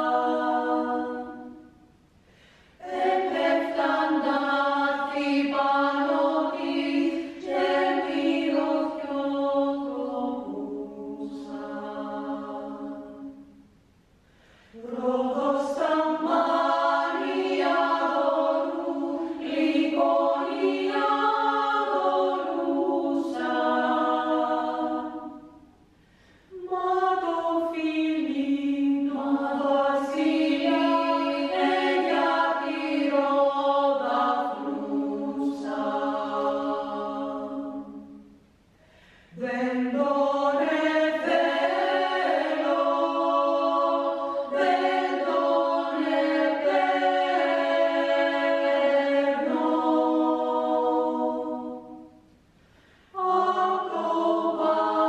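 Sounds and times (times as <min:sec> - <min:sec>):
women's choir singing a cappella: 0:00.0 - 0:02.0, 0:02.7 - 0:13.7, 0:14.7 - 0:25.8, 0:26.5 - 0:38.5, 0:39.2 - 0:55.0.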